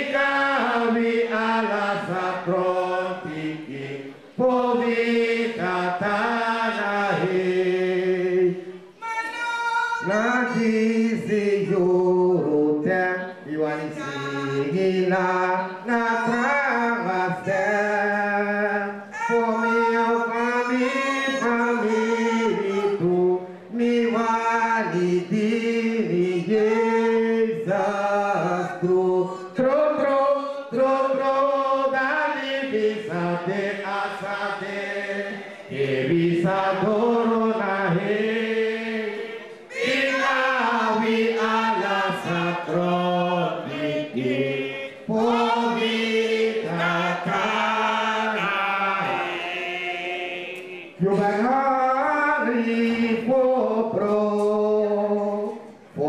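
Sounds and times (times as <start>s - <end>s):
man chanting into a microphone: 0.0s - 8.8s, 9.9s - 39.1s, 39.7s - 56.0s.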